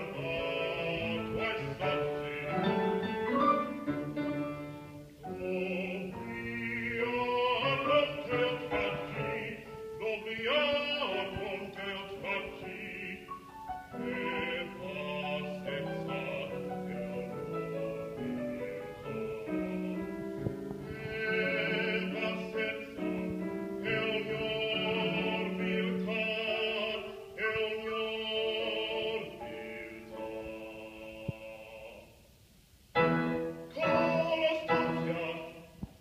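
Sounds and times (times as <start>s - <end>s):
man singing operatically: 0.0s - 32.2s, 33.0s - 35.8s
grand piano: 0.0s - 32.3s, 32.9s - 36.0s.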